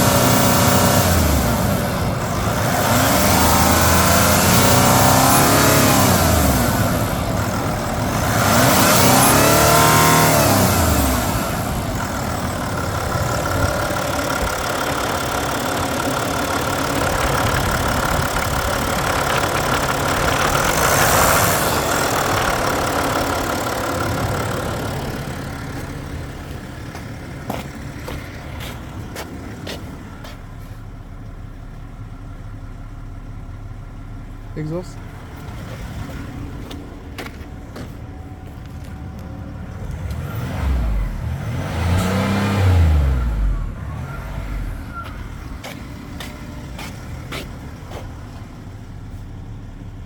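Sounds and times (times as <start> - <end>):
diesel engine revving and idling: 0.0 - 50.0.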